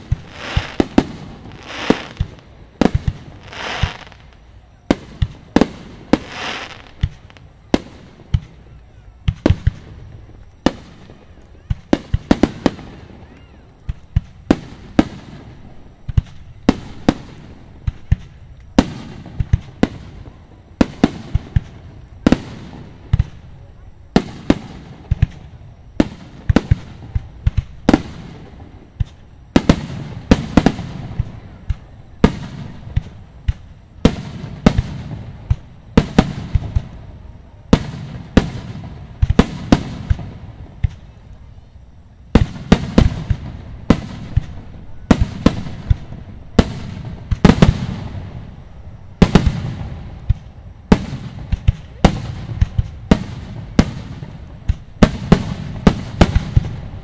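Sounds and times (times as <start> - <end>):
fireworks booming: 0.0 - 41.6, 42.2 - 57.0.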